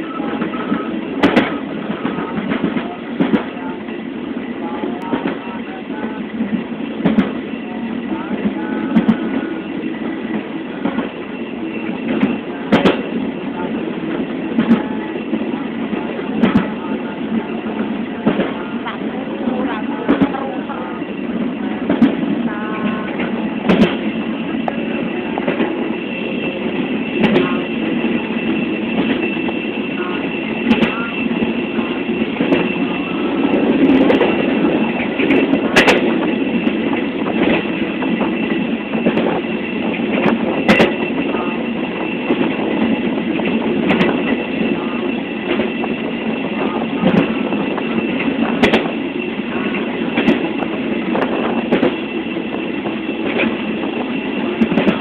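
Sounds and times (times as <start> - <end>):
rail joints clacking: 0.0 - 55.0
train car rumble and rattle: 0.0 - 55.0.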